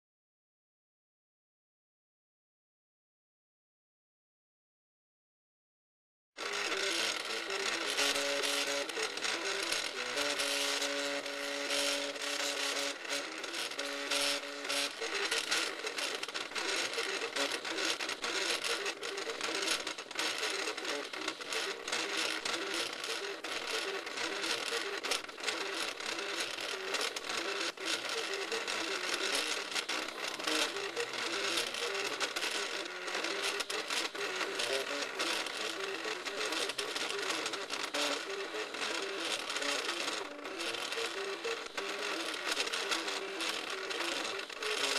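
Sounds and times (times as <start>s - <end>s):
stepper motors whining: 6.4s - 44.9s.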